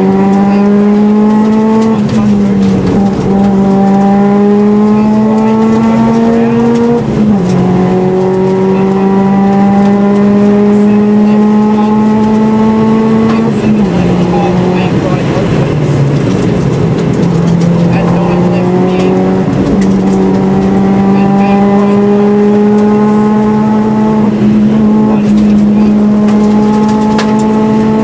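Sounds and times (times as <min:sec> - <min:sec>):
car engine running hard: 0:00.0 - 0:28.0.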